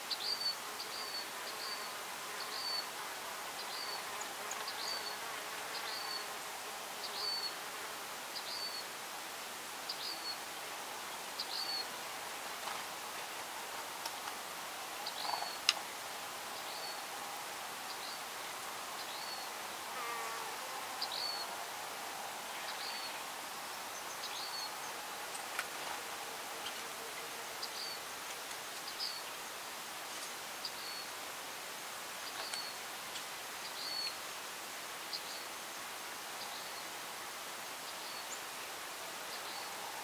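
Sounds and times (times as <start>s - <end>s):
faint steady hiss: 0.0s - 40.0s.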